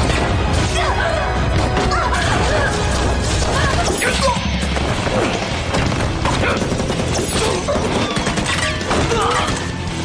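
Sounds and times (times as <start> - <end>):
action film music: 0.0 - 10.0.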